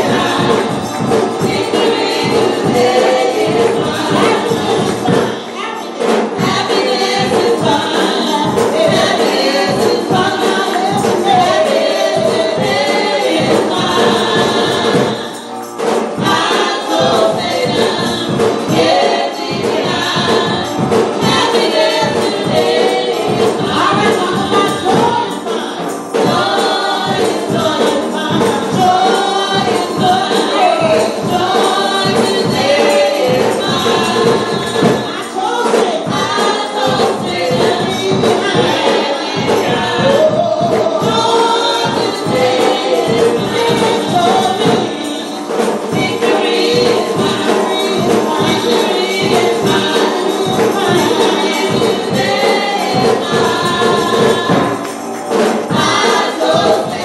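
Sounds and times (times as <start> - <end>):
gospel group singing: 0.0 - 57.0
music with steady beat: 0.0 - 57.0.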